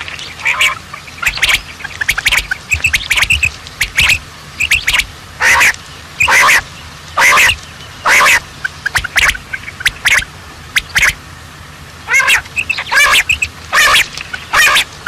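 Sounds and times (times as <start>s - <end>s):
bird calling harshly: 0.3s - 11.2s, 12.1s - 15.0s.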